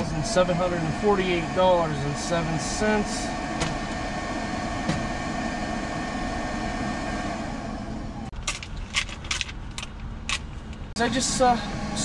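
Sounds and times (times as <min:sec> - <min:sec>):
truck cabin hum and hiss: 0:00.0 - 0:12.0.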